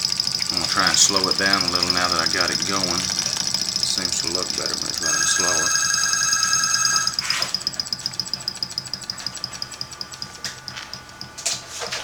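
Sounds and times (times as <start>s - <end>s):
solenoid engine fast ticking: 0.0s - 11.7s
steady high whine: 0.0s - 11.8s.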